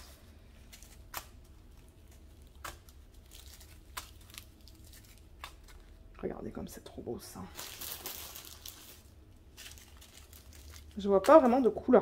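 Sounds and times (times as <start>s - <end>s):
plastic bags crinkling: 0.0s - 6.1s, 7.3s - 11.8s.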